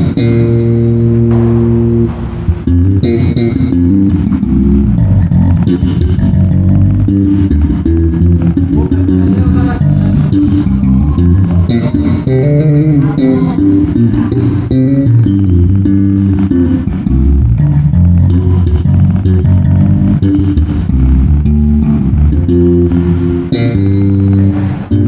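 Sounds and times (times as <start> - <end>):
electric bass plucked notes: 0.0 - 25.0.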